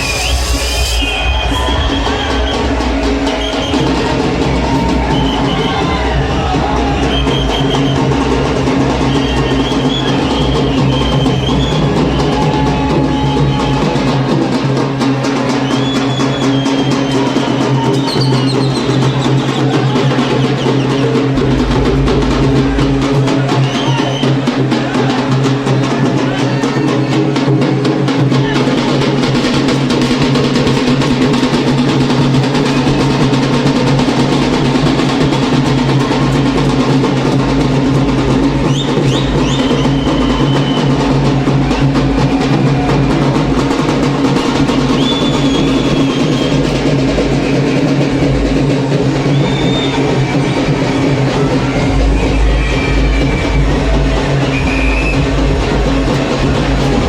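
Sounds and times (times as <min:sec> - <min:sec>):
drum-heavy music with bass beat: 0:00.0 - 0:57.0.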